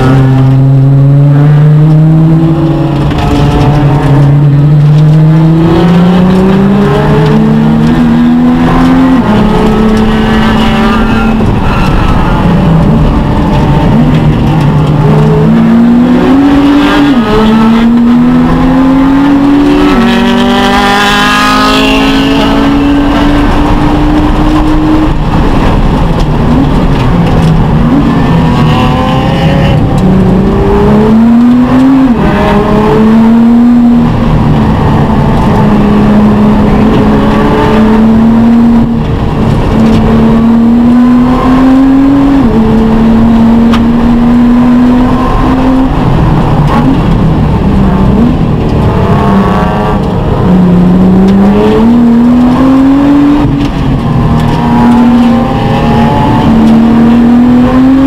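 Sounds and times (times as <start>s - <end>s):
car engine accelerating and shifting: 0.0s - 58.0s.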